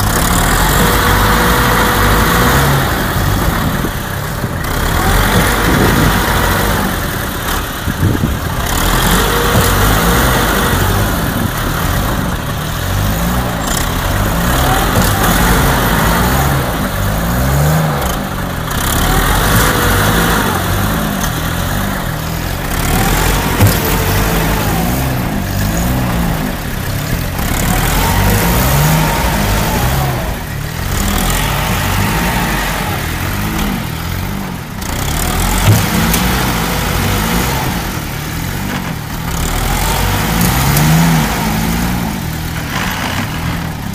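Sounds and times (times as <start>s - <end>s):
vehicle engine revving: 0.0s - 43.9s.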